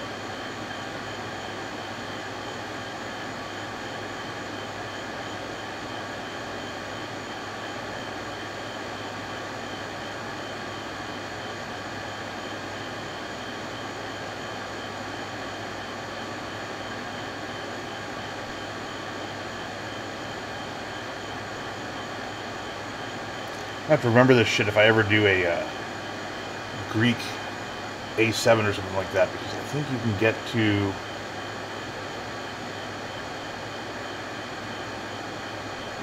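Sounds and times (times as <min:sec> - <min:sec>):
motor or fan drone: 0:00.0 - 0:36.0.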